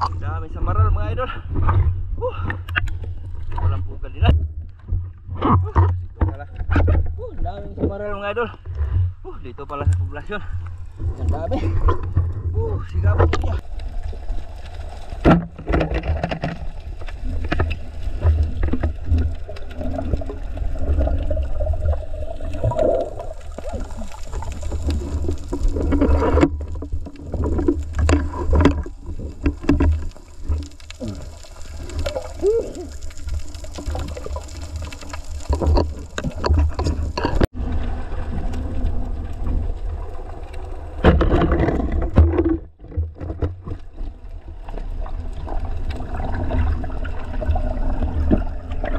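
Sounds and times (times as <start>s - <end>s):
underwater rumble and gurgling: 0.0s - 48.9s.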